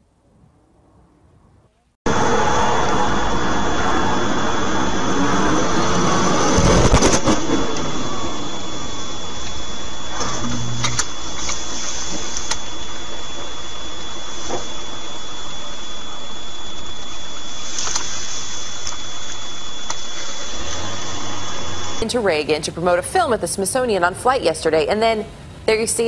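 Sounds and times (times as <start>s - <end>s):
faint high whine: 2.1s - 23.2s.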